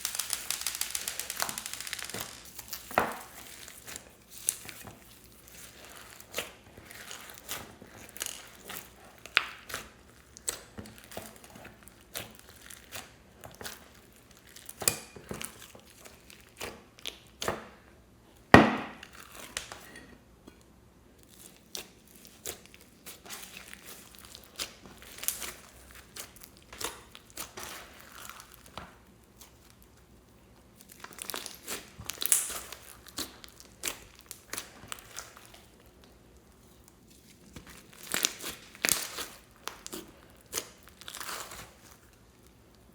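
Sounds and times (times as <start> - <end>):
slime crackling and popping: 0.0 - 17.5, 21.2 - 30.0, 30.6 - 42.9.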